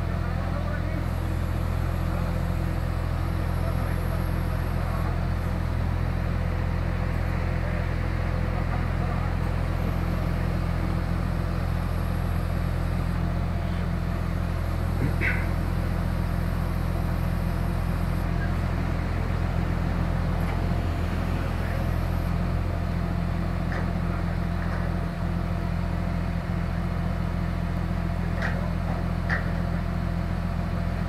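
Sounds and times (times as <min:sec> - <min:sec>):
diesel engine humming: 0:00.0 - 0:31.0.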